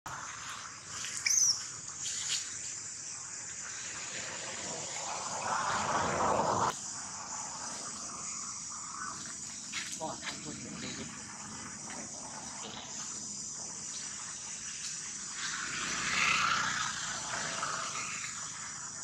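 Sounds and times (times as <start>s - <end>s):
high-pitched insect drone: 0.1s - 19.0s.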